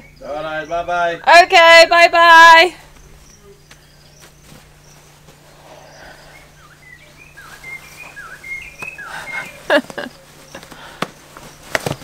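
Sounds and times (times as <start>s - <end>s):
faint bird chirps and calls: 0.0s - 1.5s, 2.5s - 12.0s
faint high insect chirping: 0.0s - 12.0s.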